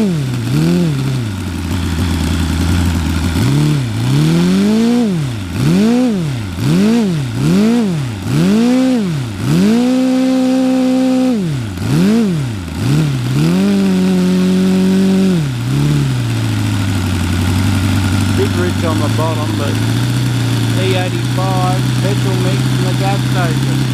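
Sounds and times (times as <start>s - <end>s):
model aircraft engine revving: 0.0s - 23.9s.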